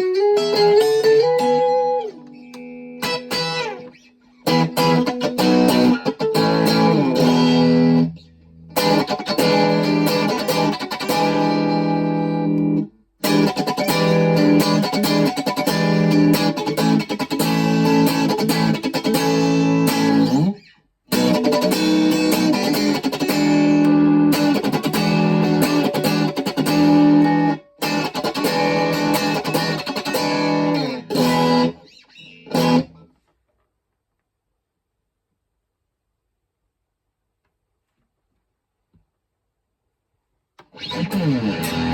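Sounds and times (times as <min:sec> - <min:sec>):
electric guitar through practice amp: 0:00.0 - 0:33.1, 0:40.6 - 0:41.9.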